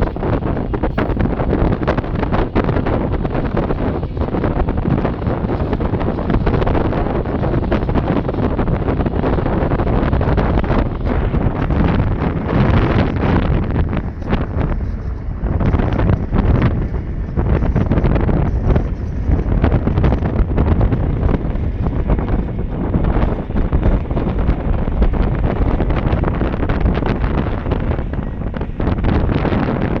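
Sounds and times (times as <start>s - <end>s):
moving train rumble and clatter: 0.0s - 30.0s
wind buffeting microphone: 0.0s - 30.0s.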